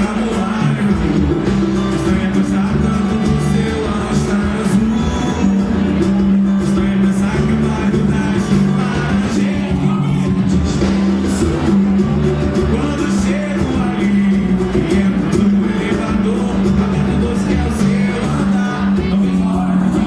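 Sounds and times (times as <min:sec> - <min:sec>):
band music: 0:00.0 - 0:20.0
person singing: 0:00.0 - 0:20.0.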